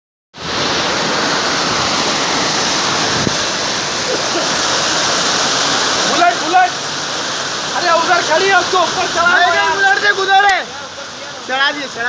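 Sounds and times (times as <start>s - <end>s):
floodwater rushing: 0.4s - 12.0s.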